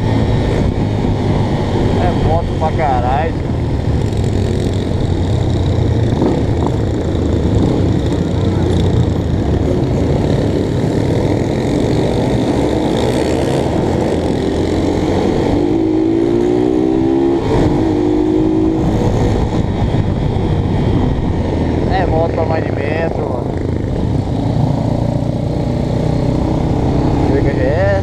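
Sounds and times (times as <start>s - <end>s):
motorcycle accelerating: 0.0s - 28.0s
motorcycle engine running: 0.0s - 28.0s
wind rumble on microphone: 0.0s - 28.0s.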